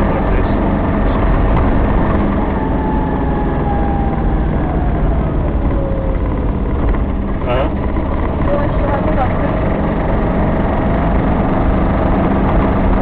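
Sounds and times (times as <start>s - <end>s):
diesel engine drone: 0.0s - 13.0s
thin whine dropping in pitch: 0.0s - 13.0s.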